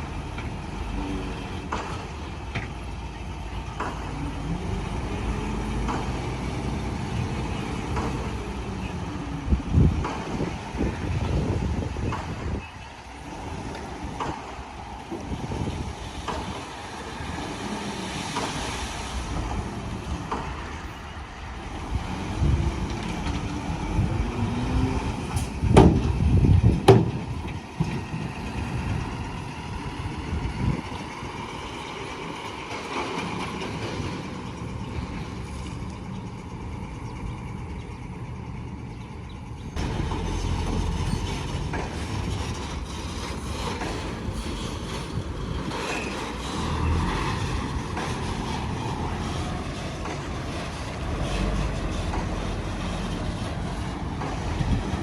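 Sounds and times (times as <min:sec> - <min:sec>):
diesel machinery engines rumbling: 0:00.0 - 0:55.0.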